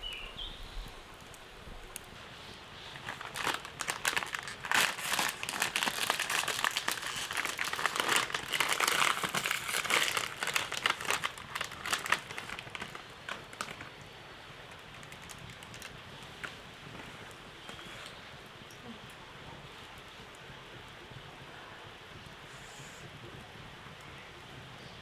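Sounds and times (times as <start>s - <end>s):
crinkling and crackling: 0.0s - 20.4s.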